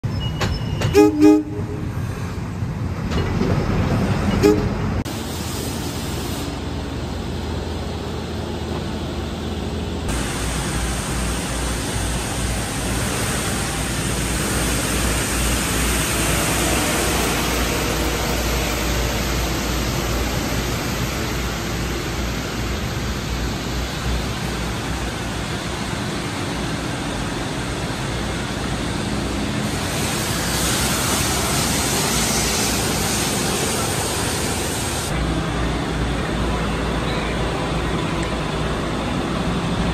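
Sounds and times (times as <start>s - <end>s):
low rumble of subway: 0.0s - 39.9s
street noise hiss: 0.1s - 39.9s.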